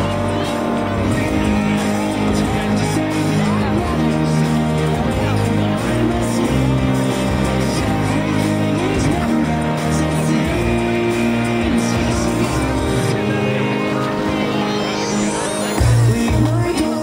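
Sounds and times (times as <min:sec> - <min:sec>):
pop music over loudspeaker: 0:00.0 - 0:17.0.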